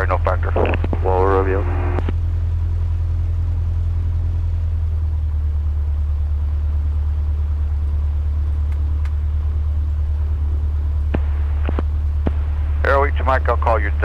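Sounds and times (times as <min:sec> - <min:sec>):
aircraft engine idling: 0:00.0 - 0:14.0.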